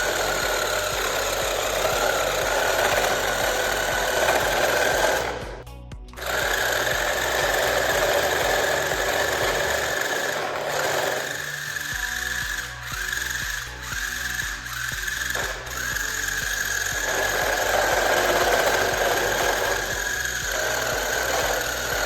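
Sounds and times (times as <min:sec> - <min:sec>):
toy car motors whining: 0:00.0 - 0:05.6, 0:06.2 - 0:22.0.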